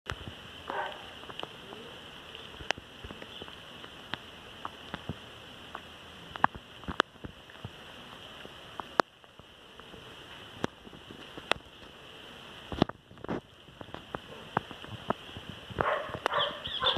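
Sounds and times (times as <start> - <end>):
even outdoor hiss: 0.1 - 16.9.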